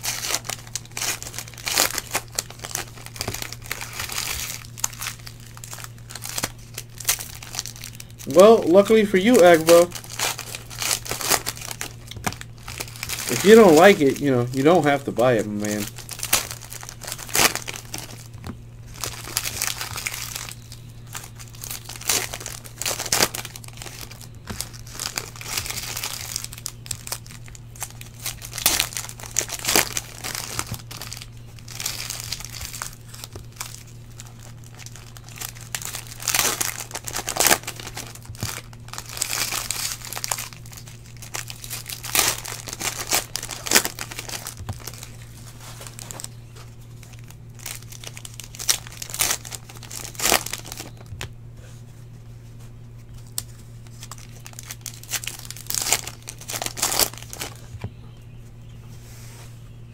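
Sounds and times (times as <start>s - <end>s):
cards rustling and clicking: 0.0s - 51.3s
plastic wrapper crinkling: 0.0s - 51.4s, 53.0s - 58.0s
steady low hum: 0.0s - 59.9s.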